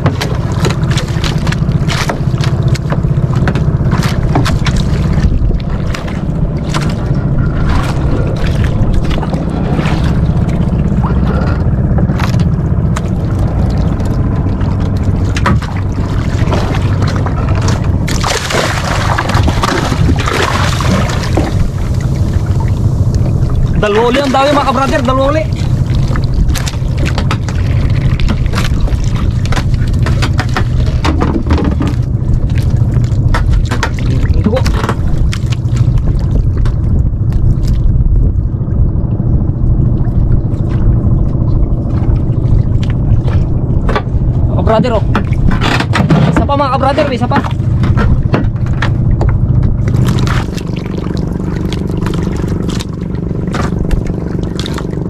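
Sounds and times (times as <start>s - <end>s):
fish splashing against hull: 0.0s - 38.5s, 39.9s - 55.0s
boat engine running: 0.0s - 55.0s.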